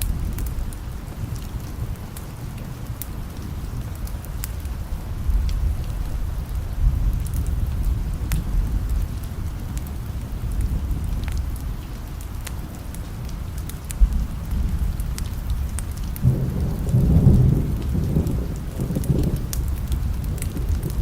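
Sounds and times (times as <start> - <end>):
thunder rumbling: 0.0 - 12.0, 13.2 - 21.0
light ticks of raindrops: 0.0 - 21.0
steady rain: 0.0 - 21.0.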